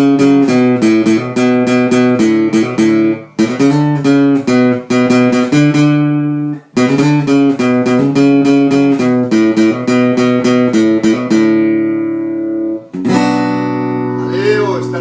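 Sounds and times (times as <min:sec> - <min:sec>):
guitar chord strokes: 0:00.0 - 0:15.0.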